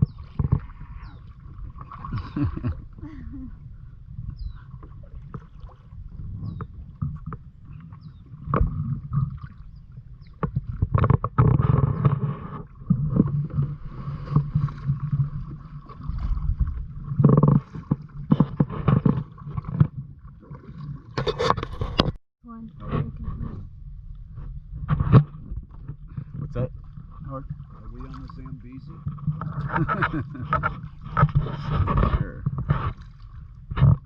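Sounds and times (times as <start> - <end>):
paddle blades splashing: 0.0 - 34.0
wind rumble on microphone: 0.0 - 34.0.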